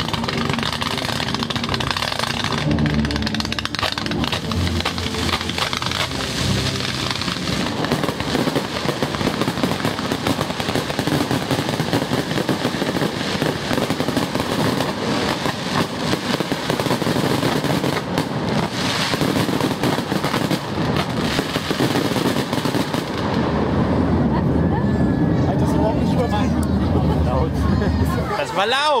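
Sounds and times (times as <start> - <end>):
fireworks crackling and banging: 0.0 - 26.3.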